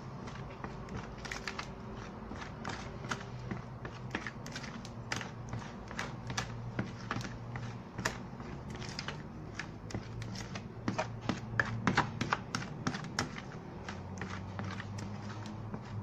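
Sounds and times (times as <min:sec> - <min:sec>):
spatula stirring batter in bowl: 0:00.0 - 0:16.0.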